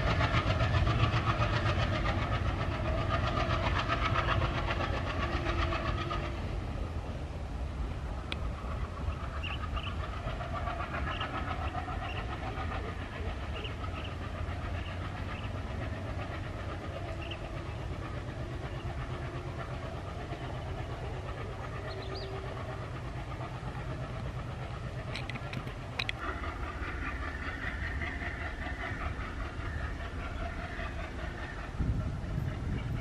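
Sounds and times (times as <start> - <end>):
diesel train low rumble: 0.0 - 33.0.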